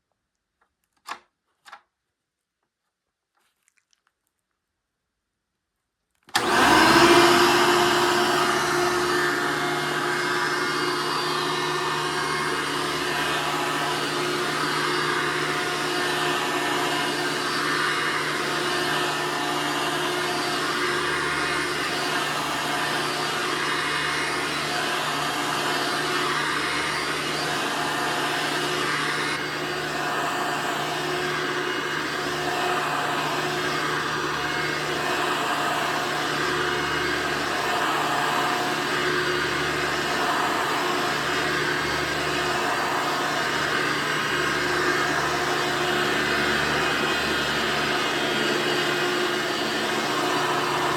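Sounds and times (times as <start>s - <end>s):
vacuum cleaner motor whirring: 6.3s - 50.9s.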